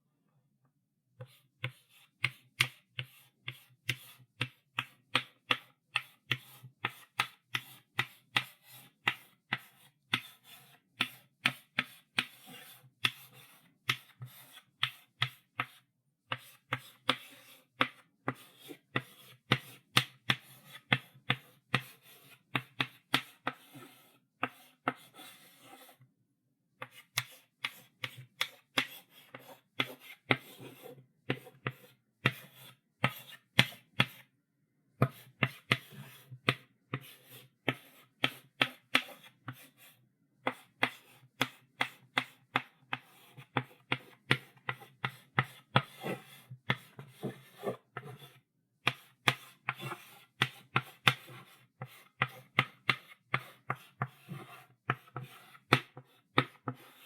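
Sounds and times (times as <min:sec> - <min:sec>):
chalk scratching on blackboard: 0:01.2 - 0:26.0, 0:26.8 - 0:34.3, 0:35.0 - 0:57.0
chalk tapping on blackboard: 0:01.2 - 0:26.0, 0:26.8 - 0:34.3, 0:35.0 - 0:57.0.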